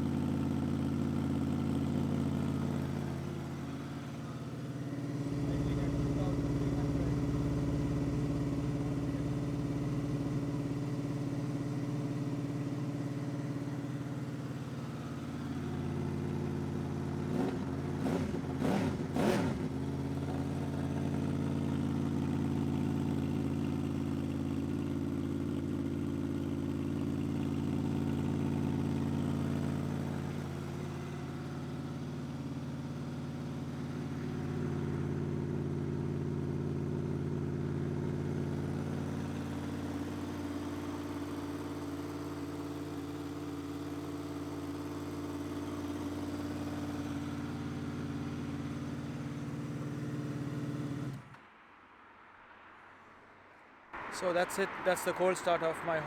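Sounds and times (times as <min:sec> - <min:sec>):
motorcycle engine idling: 0:00.0 - 0:51.3.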